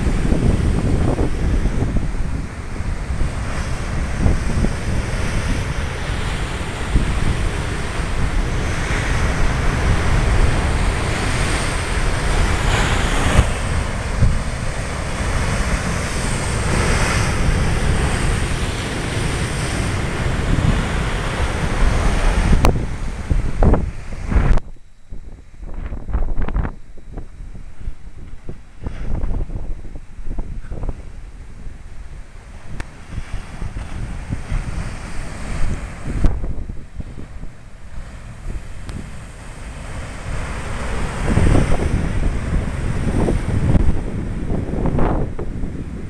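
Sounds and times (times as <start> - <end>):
surf breaking on shore: 0.0 - 24.7, 25.6 - 46.0
wind buffeting microphone: 0.0 - 46.0.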